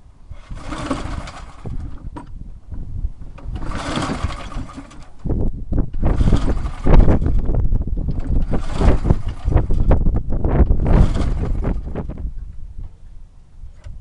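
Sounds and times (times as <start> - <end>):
low rumble: 0.0 - 14.0
recoil starter whirring: 0.0 - 14.0.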